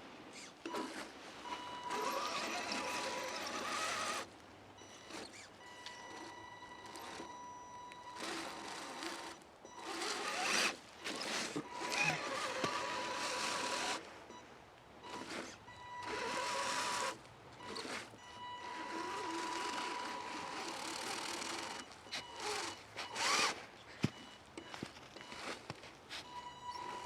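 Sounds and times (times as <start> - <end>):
electric motor whining: 0.4 - 14.1, 15.1 - 23.6, 26.3 - 27.0.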